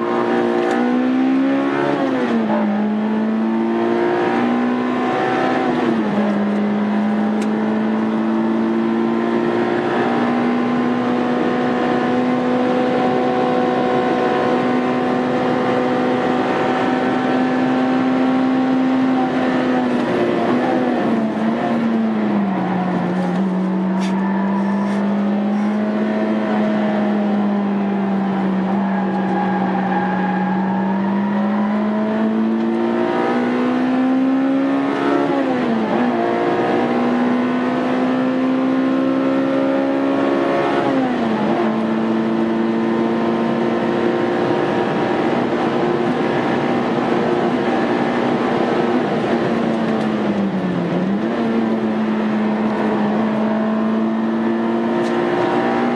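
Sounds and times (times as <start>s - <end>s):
car engine revving hard: 0.0s - 55.9s.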